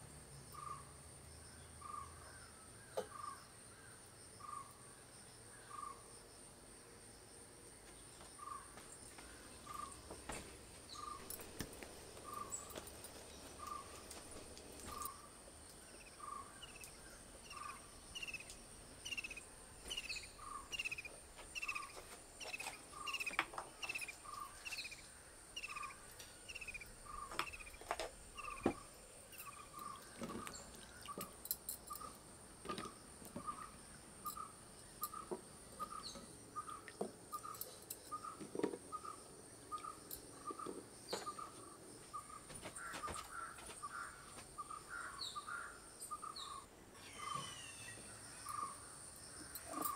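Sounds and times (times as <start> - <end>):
high insect drone: 0.0 - 49.9
bird chirping: 0.5 - 0.9, 1.5 - 4.8, 8.4 - 32.2, 32.8 - 49.9.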